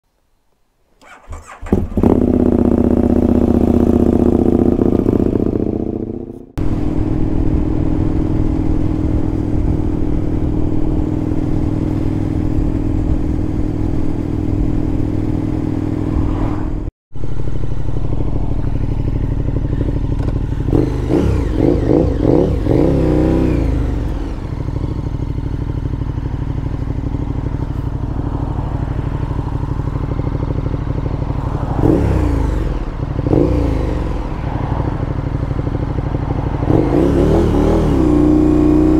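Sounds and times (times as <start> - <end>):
road noise: 0.0 - 38.9
motorcycle engine running: 1.0 - 38.9.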